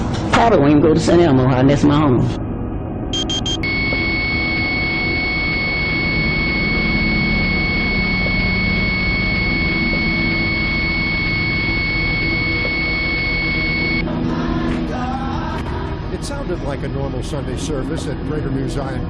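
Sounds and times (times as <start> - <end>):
steady high-pitched tone: 3.1 - 19.0.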